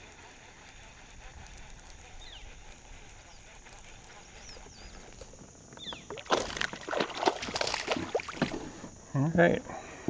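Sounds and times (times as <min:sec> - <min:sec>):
birds chirping faintly: 0:00.0 - 0:06.9, 0:08.0 - 0:10.0.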